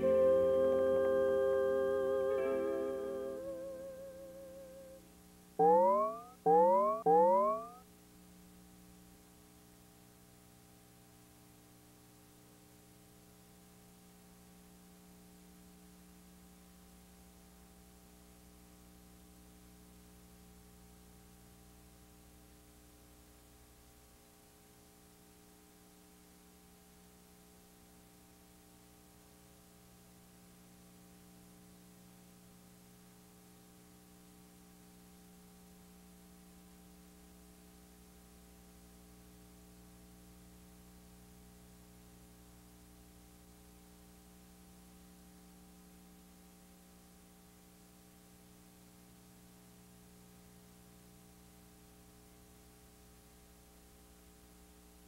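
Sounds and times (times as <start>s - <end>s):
faint electrical mains hum: 0.0s - 55.0s.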